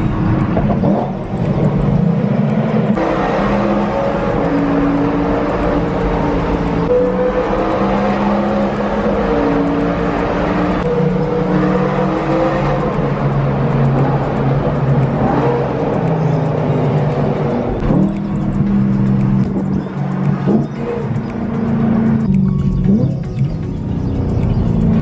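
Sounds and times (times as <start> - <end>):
car engine while driving: 0.0 - 25.0.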